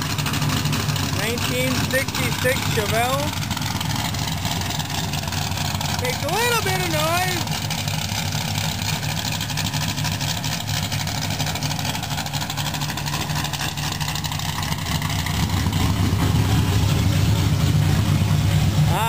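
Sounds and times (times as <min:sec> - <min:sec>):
race car engine idling: 0:00.0 - 0:19.0.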